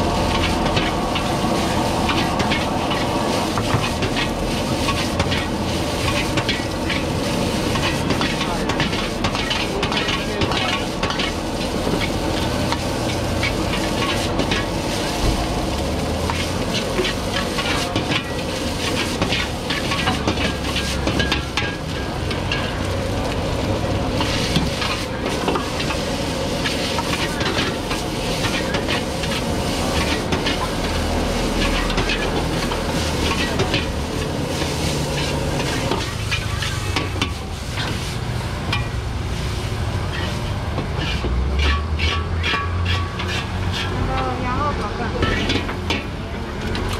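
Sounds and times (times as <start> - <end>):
gas burner flame rushing: 0.0 - 44.2
metal ladle scraping a wok: 0.0 - 44.2, 45.1 - 46.2
rice sizzling in a wok: 0.0 - 46.9.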